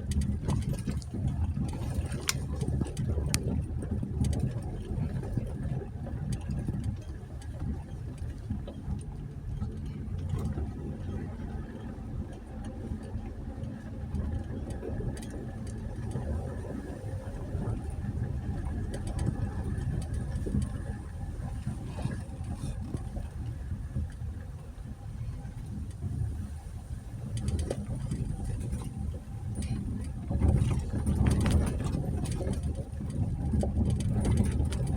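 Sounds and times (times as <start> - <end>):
faint clicks and knocks: 0.0 - 16.7, 17.6 - 26.4, 27.2 - 34.9
car engine at low revs: 0.0 - 34.9.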